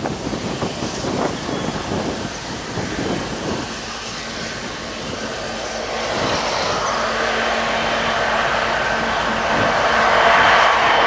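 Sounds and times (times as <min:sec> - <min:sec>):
diesel locomotive humming: 0:00.0 - 0:11.0.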